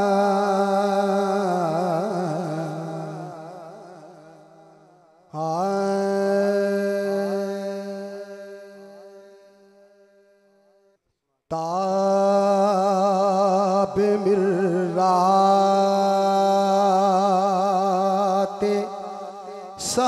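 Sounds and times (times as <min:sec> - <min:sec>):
man singing with heavy echo: 0:00.0 - 0:10.5, 0:11.5 - 0:20.0.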